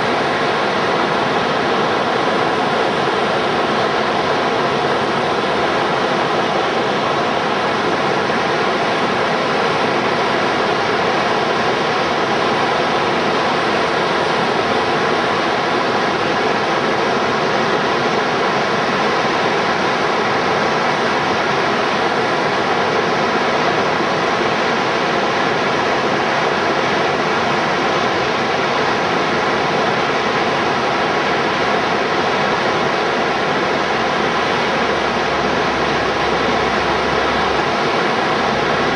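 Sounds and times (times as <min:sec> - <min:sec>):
roar of river rapids: 0:00.0 - 0:38.9.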